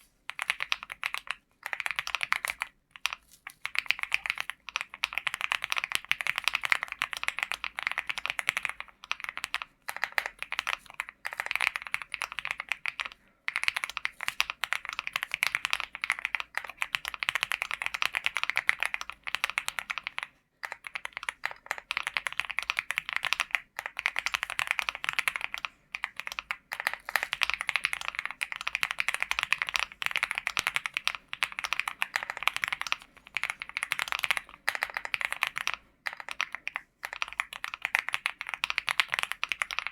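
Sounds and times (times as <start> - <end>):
mechanical keyboard typing: 0.3 - 39.9.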